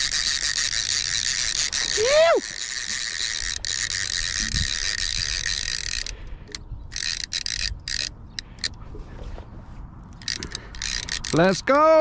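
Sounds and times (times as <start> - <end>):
fishing reel clicker ratcheting: 0.0 - 8.8, 10.1 - 11.8.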